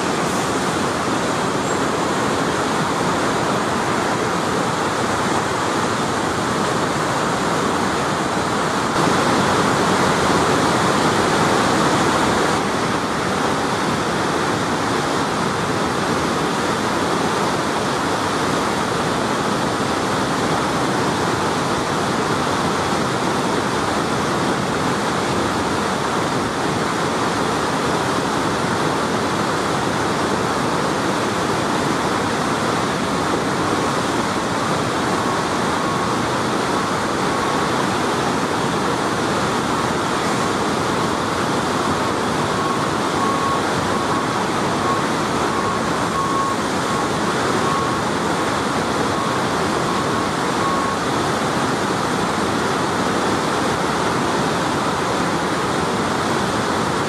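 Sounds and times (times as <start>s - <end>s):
rushing whitewater over dam: 0.0s - 57.0s.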